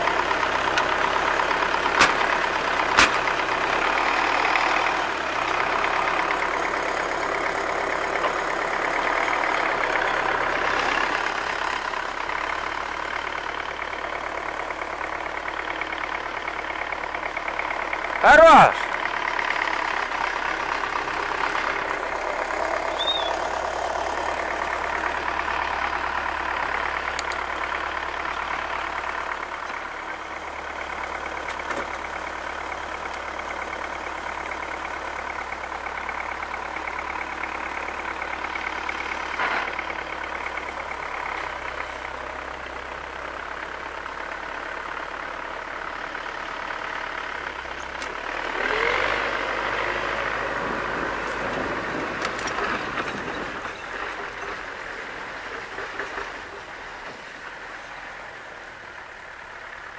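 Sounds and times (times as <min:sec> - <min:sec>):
tractor diesel engine idling: 0:00.0 - 0:59.9.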